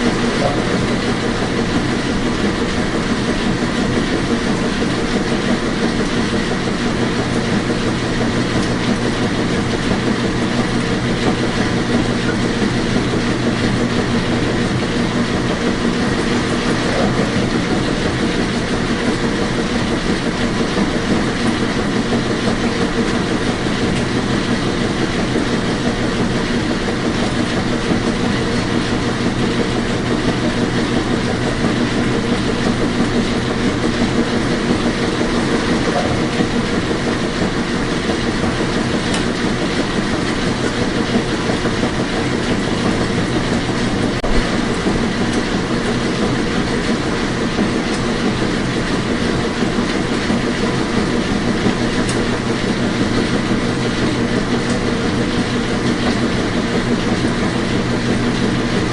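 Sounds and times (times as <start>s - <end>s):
washing machine running: 0.0s - 58.9s.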